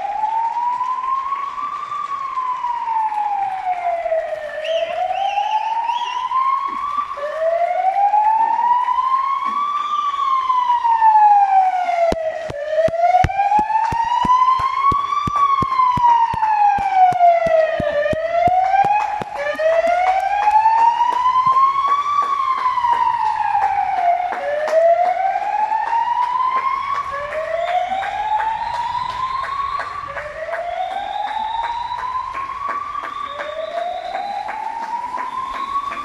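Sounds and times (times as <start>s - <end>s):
ambulance siren wailing: 0.0s - 36.0s.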